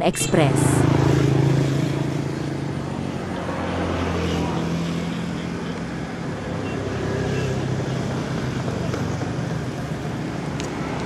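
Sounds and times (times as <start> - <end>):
heavy vehicle engine drone: 0.0 - 11.0
traffic rumble: 0.0 - 11.0.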